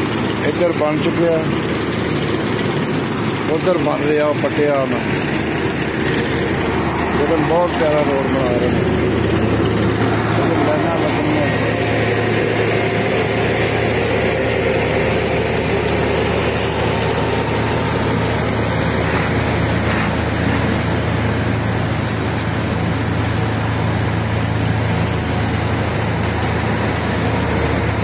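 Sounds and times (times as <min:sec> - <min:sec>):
road roller engine humming: 0:00.0 - 0:28.0.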